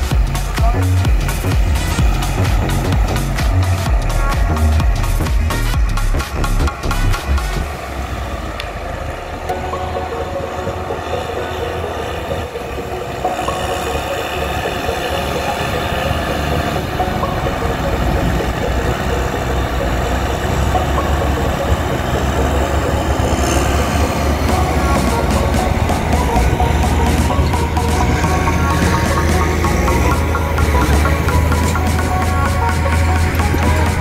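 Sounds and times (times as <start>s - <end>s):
heavy diesel engines running: 0.0s - 34.0s.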